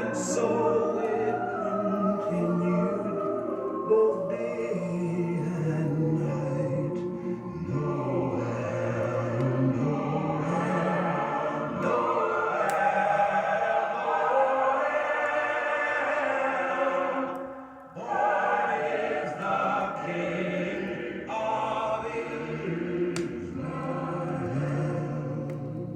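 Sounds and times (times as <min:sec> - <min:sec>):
choir singing long held notes: 0:00.0 - 0:25.9.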